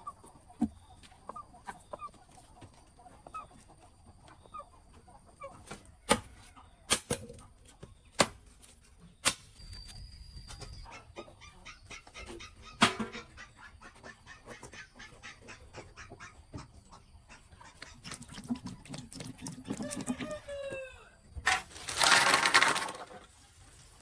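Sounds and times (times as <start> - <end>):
chickens clucking: 0.0 - 8.1, 9.9 - 24.0.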